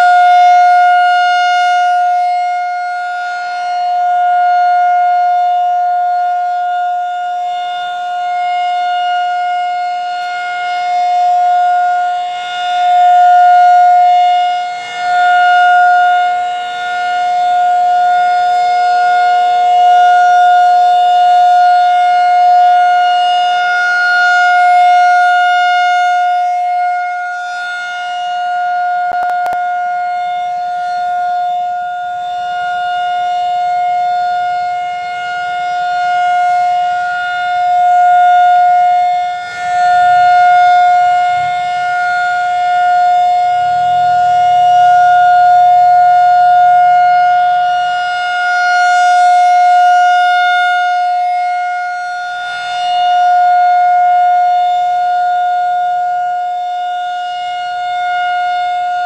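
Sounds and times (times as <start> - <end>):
rotating warning siren: 0.0 - 59.0.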